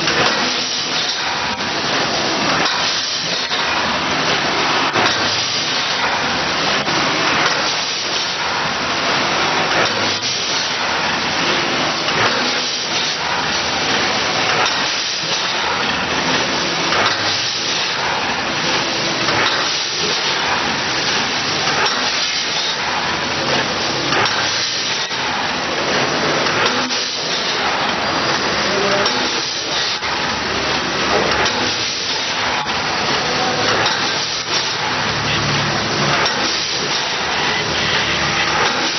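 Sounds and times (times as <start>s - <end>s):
packaging machine hissing: 0.0s - 38.9s.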